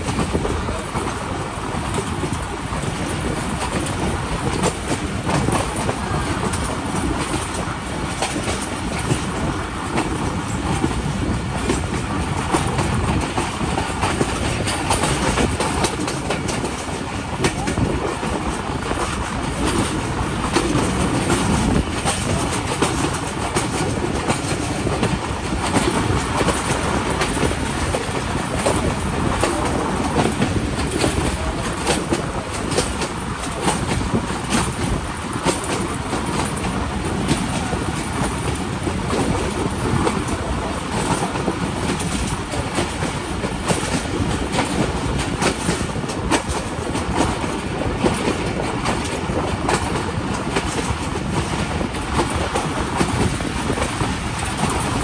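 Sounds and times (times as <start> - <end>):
train wheels rumbling on rails: 0.0 - 55.0
wheels clacking over rail joints: 0.0 - 55.0.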